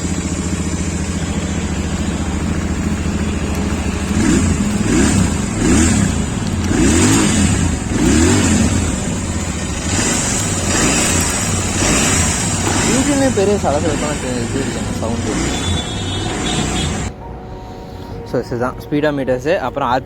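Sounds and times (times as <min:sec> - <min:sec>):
motorcycle engine idling and revving: 0:00.0 - 0:17.3.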